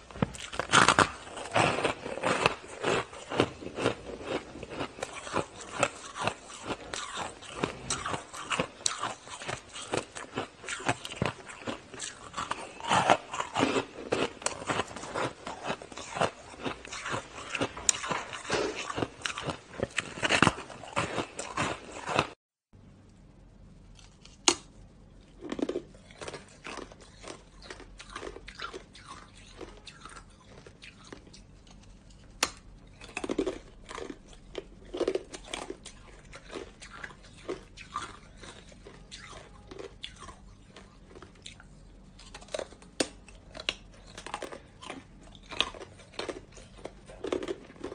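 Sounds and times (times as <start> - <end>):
crunching and chewing ice: 0.0 - 22.4, 25.2 - 47.9.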